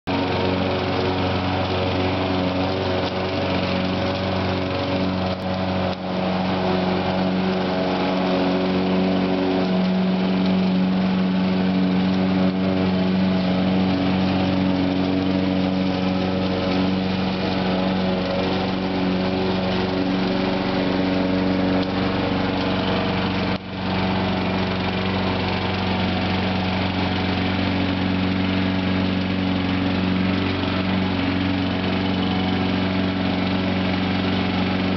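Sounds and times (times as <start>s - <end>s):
lawn mower engine running: 0.0s - 34.9s.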